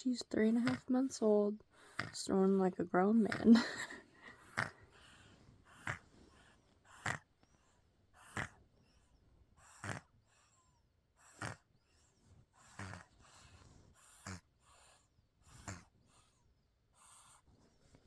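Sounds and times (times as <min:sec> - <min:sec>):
baby snoring: 0:00.4 - 0:17.5
faint breathing: 0:01.6 - 0:02.6, 0:03.2 - 0:18.0.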